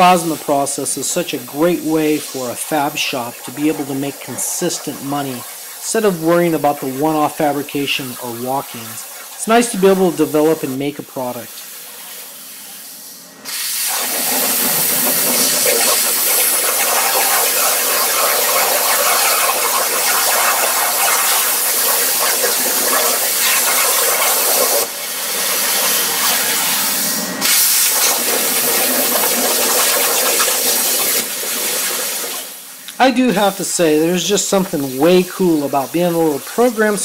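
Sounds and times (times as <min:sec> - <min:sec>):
faint hiss: 0:00.0 - 0:24.9, 0:29.0 - 0:37.0
plasma cutter hissing: 0:00.0 - 0:37.0.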